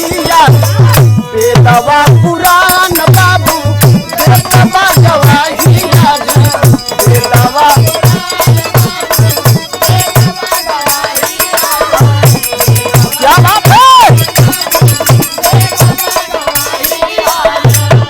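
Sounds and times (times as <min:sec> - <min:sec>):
steady low drum beat: 0:00.0 - 0:16.6.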